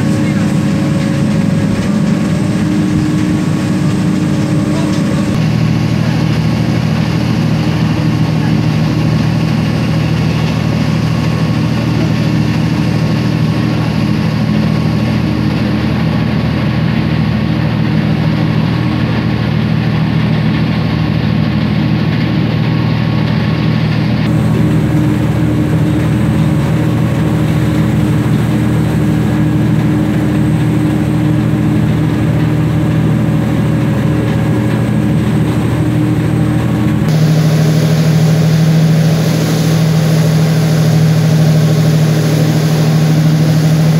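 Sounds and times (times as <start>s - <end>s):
boat engine running: 0.0s - 21.7s, 24.0s - 43.9s.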